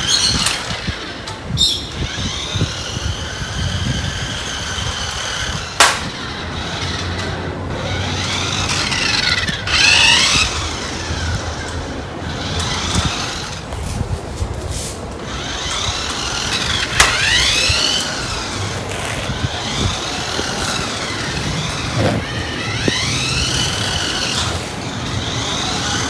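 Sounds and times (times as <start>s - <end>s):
toy car motor whining: 0.0s - 14.3s, 15.0s - 26.0s.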